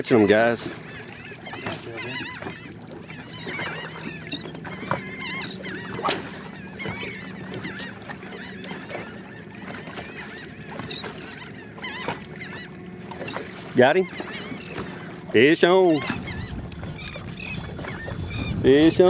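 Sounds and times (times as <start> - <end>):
flock of birds calling: 0.1 - 19.0.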